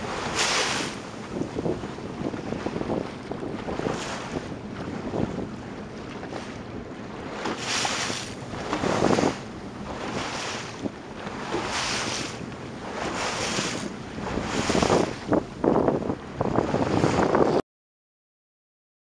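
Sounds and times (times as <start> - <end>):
sea water sloshing around boat: 0.0 - 17.6
wind buffeting microphone: 0.0 - 17.6.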